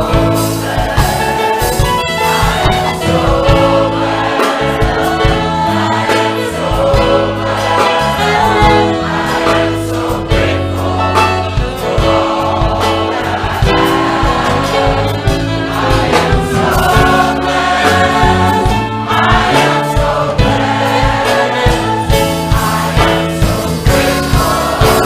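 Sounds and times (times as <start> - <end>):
band accompaniment: 0.0 - 25.0
gospel choir singing: 0.0 - 25.0.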